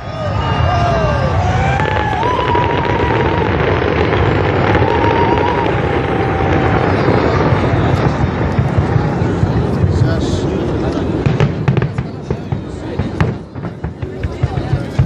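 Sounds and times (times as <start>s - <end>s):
fireworks barrage: 0.0s - 15.0s.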